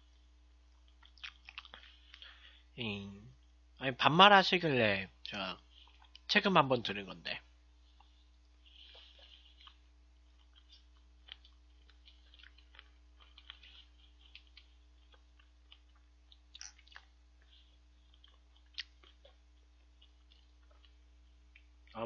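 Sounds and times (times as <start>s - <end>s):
faint electrical hum: 0.0s - 22.0s
faint chewing: 0.1s - 2.6s, 5.2s - 6.3s, 7.8s - 22.0s.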